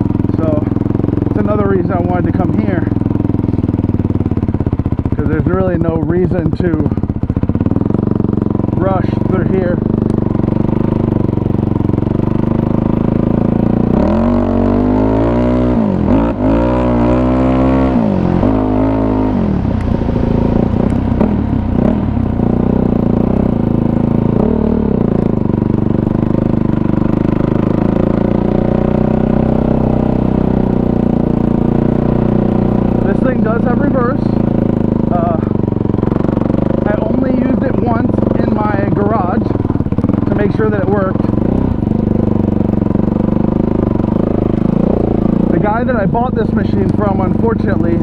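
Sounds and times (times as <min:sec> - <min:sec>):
atv engine running and revving: 0:00.0 - 0:48.0.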